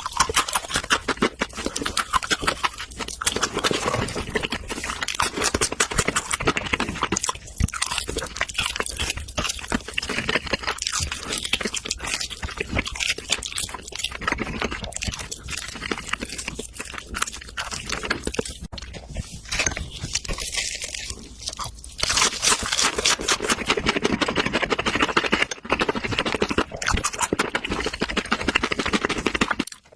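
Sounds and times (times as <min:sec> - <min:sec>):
chewing and crunching meat: 0:00.0 - 0:29.9.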